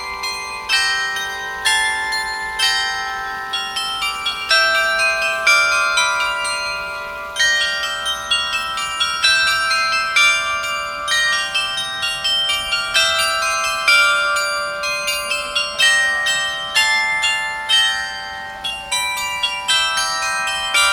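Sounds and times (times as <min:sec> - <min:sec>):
tuned bells playing a melody: 0:00.0 - 0:20.9.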